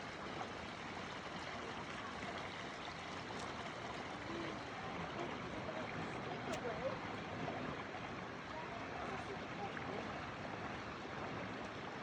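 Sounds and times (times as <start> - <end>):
flowing water: 0.0 - 12.0.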